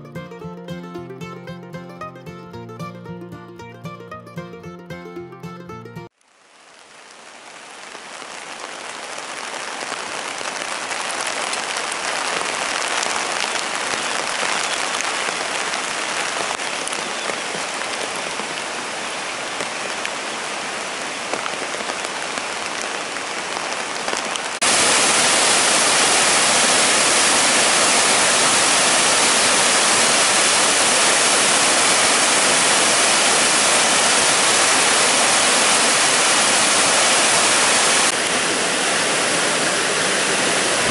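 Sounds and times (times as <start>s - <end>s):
stream rushing: 6.4s - 40.9s.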